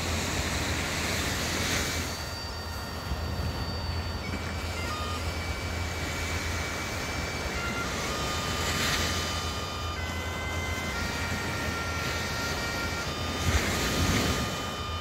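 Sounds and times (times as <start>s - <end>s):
bagpipes playing slow melody: 0.0s - 15.0s.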